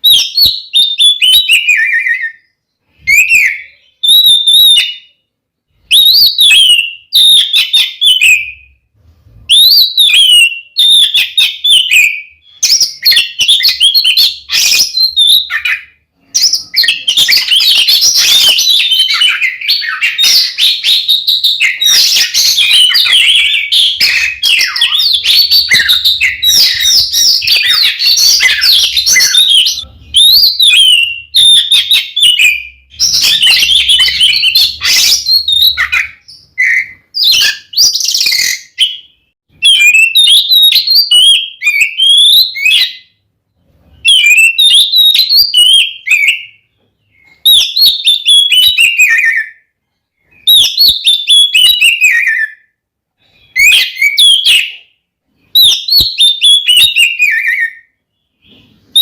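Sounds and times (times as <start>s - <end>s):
bird singing loudly: 0.0s - 5.2s, 5.8s - 8.8s, 9.4s - 43.2s, 44.0s - 49.7s, 50.3s - 52.7s, 53.4s - 59.0s.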